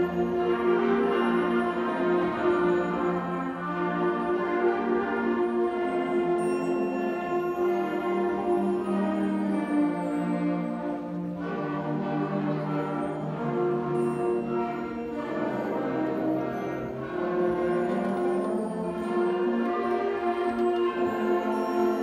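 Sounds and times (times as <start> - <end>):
concert band playing sustained chords: 0.0 - 22.0.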